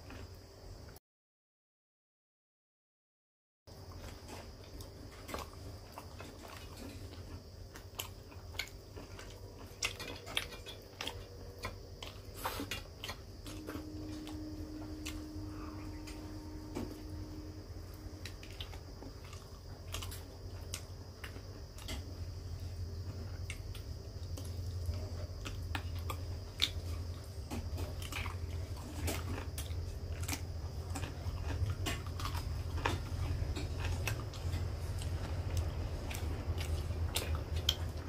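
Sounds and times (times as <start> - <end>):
person chewing food: 3.9 - 38.0
low hum: 6.4 - 38.0.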